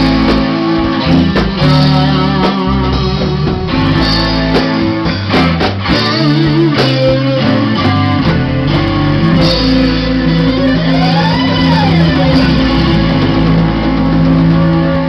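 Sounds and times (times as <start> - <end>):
drum strokes: 0.0 - 15.0
electric bass: 0.0 - 15.0
electric guitars: 0.0 - 15.0.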